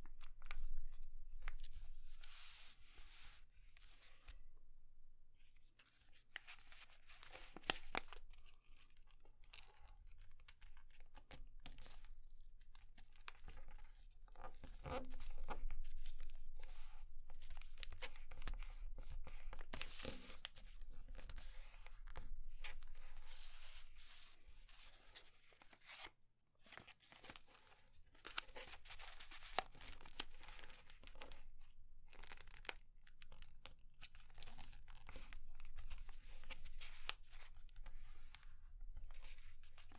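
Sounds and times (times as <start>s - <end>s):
paper rustling being folded: 0.2s - 4.4s, 5.7s - 9.8s, 14.6s - 31.4s, 32.1s - 39.9s.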